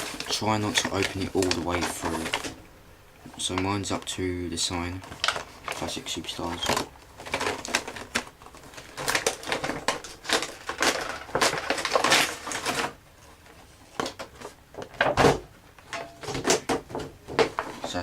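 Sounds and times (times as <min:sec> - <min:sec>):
cardboard packaging crackling: 0:00.0 - 0:18.0
loud cardboard crackle: 0:00.0 - 0:18.0.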